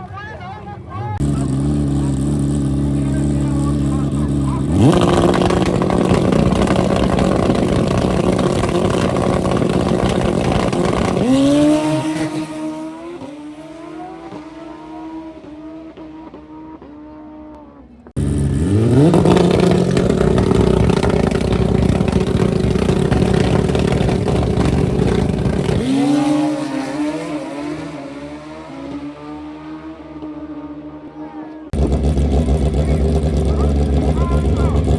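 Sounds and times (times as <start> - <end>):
drag racing motorcycle engines revving: 0.0 - 34.9
quick gear upshifts: 0.0 - 34.9.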